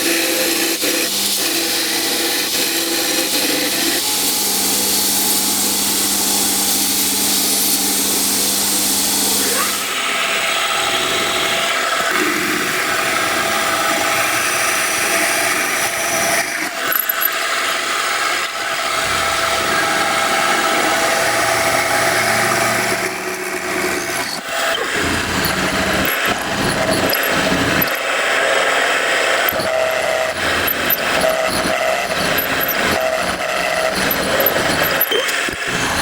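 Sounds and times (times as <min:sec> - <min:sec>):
power tool whining under load: 0:00.0 - 0:36.0.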